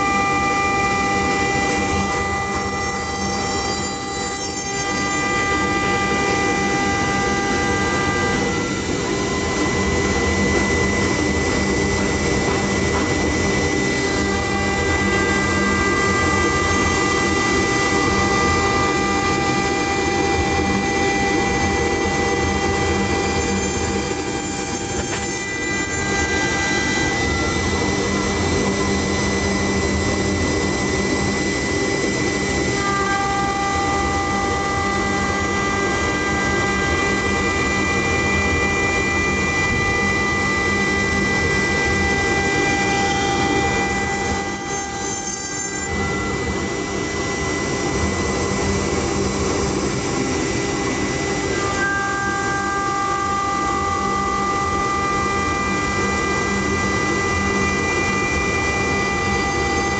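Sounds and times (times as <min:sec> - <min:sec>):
lathe router milling wood: 0:00.0 - 0:59.9
whining tones: 0:00.0 - 0:59.9.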